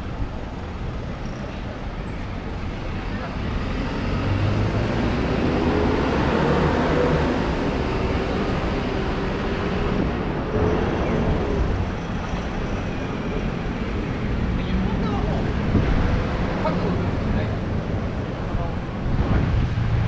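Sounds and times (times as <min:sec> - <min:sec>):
passing vehicles: 0:00.0 - 0:20.0.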